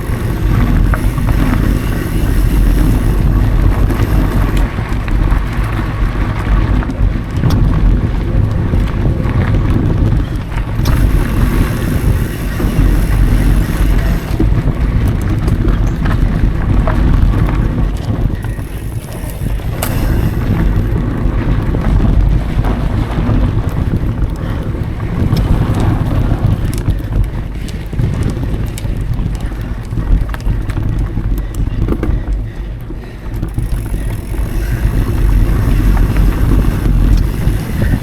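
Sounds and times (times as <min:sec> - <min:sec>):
bike clicks and rattles: 0:00.0 - 0:38.0
tyres rumbling on dirt: 0:00.0 - 0:38.0
wind buffeting microphone: 0:00.0 - 0:38.0.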